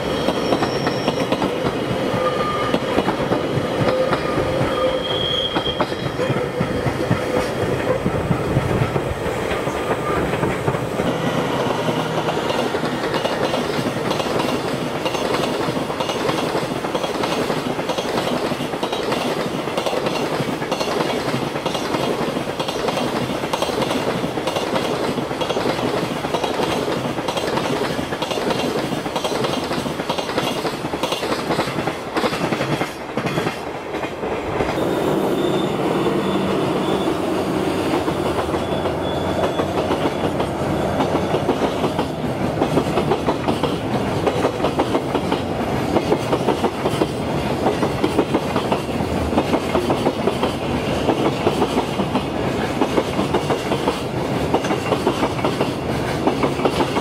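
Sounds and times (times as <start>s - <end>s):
clickety-clack of rail joints: 0.0s - 34.8s, 37.8s - 57.0s
freight train wheels rumbling: 0.0s - 57.0s.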